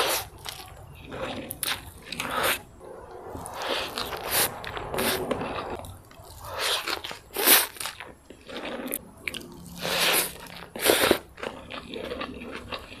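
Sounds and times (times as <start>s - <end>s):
crunchy bites and chewing: 0.0s - 13.0s.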